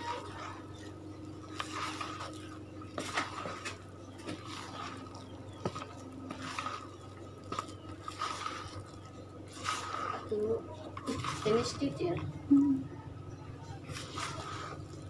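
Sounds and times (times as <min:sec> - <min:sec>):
spatula scraping batter in bowl: 0:00.0 - 0:12.2, 0:13.8 - 0:15.0
faint steady hum: 0:00.0 - 0:15.0.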